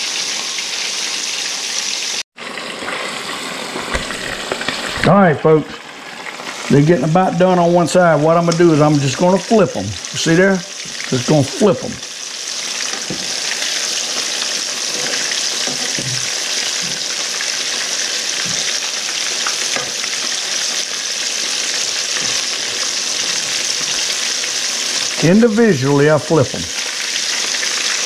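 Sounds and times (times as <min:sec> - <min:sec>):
fish sizzling in hot grease: 0:00.0 - 0:07.6, 0:08.2 - 0:25.9, 0:26.5 - 0:28.0.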